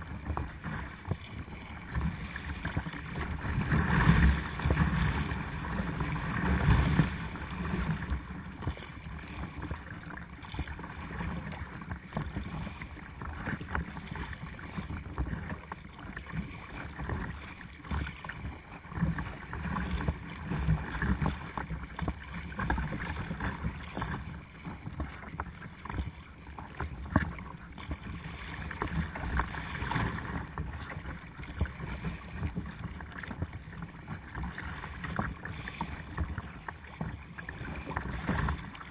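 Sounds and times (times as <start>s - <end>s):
water splashing against kayak: 0.0s - 38.9s.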